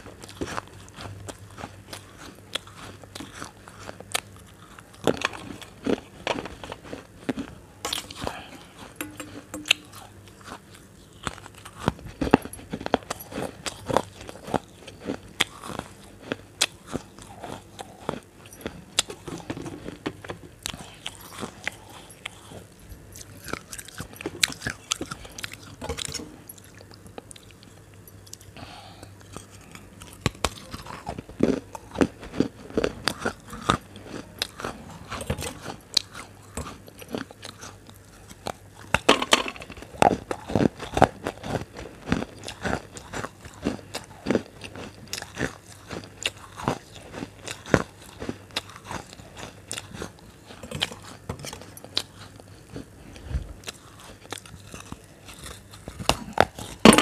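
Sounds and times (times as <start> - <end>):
person crunching food: 0.0 - 57.0.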